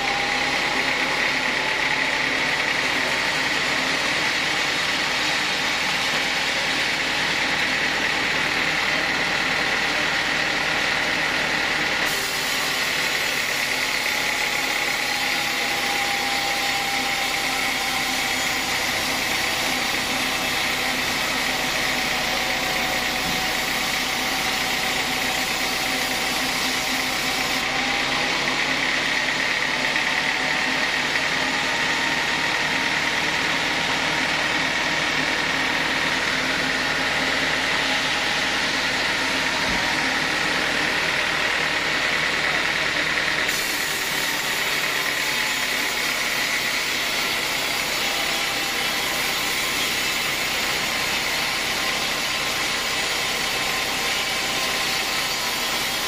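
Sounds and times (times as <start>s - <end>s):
band saw cutting log: 0.0s - 56.0s.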